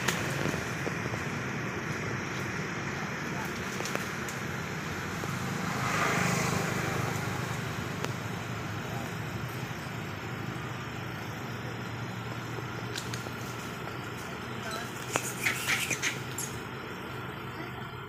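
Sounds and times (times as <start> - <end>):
low hum of traffic: 0.0 - 18.0
vehicle passing: 0.0 - 18.0.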